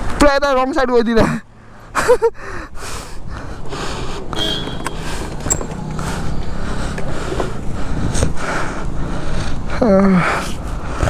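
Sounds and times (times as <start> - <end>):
traffic rumbling hiss: 1.5 - 11.0.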